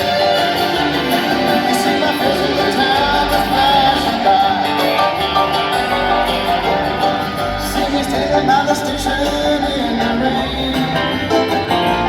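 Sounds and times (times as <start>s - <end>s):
acoustic guitar: 0.0s - 12.0s
bluegrass band playing: 0.0s - 12.0s.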